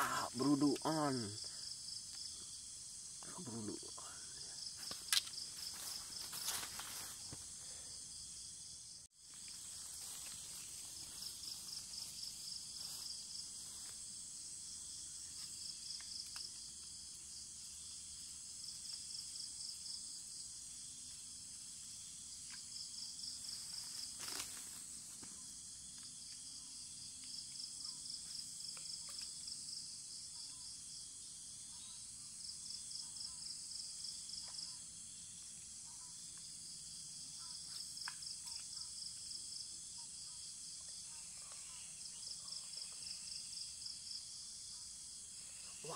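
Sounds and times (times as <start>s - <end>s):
insect chirping call: 0.0s - 45.9s
insects hissing: 0.0s - 45.9s.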